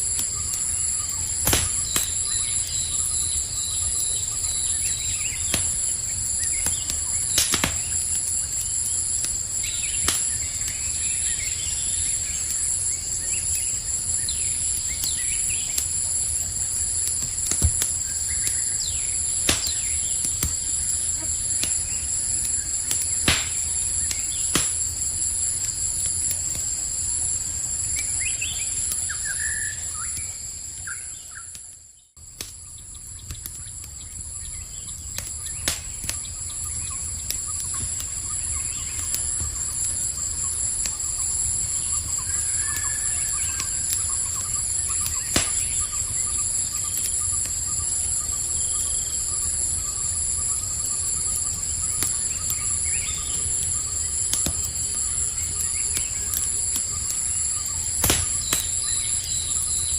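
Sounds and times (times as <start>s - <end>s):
campfire crackling and popping: 0.0s - 59.9s
night insects chirring: 0.0s - 59.9s.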